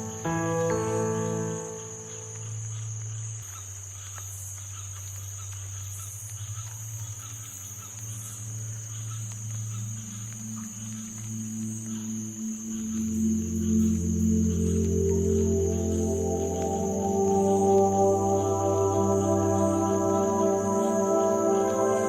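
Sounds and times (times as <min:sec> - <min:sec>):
ambient music with low drone: 0:00.0 - 0:22.0
insects chirring: 0:00.0 - 0:22.0.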